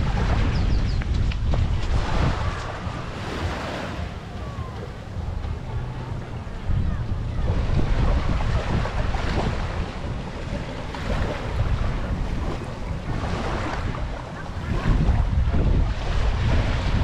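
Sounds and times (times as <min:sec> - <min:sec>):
surf rushing on sandy beach: 0:00.0 - 0:17.0
wind buffeting microphone: 0:00.0 - 0:17.0.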